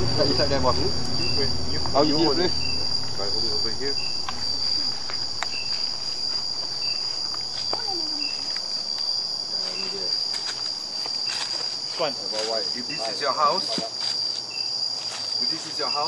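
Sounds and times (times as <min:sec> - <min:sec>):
high-pitched insect drone: 0:00.0 - 0:16.0
insect chirp: 0:00.0 - 0:16.0.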